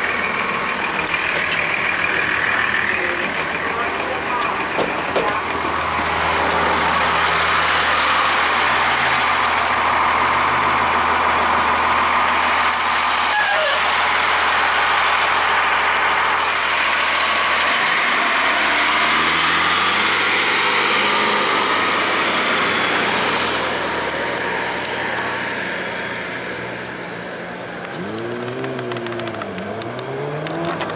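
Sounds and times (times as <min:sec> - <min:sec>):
bus diesel engine revving: 0:00.0 - 0:30.9.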